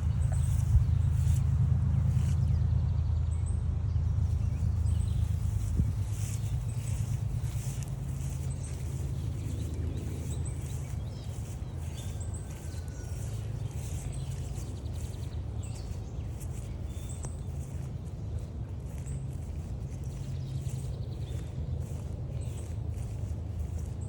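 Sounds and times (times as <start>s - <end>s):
songbirds chirping: 0.0s - 24.0s
steady low rumble: 0.0s - 24.0s.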